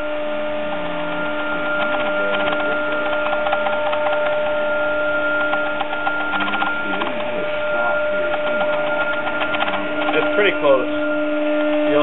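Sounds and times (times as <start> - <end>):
cnc router stepper motor whine: 0.0 - 12.0.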